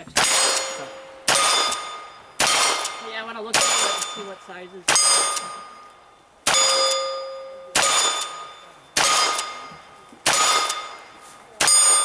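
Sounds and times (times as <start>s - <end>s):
gunshots: 0.0s - 4.3s, 4.9s - 5.8s, 6.4s - 12.0s
steel target ringing clang: 0.2s - 12.0s.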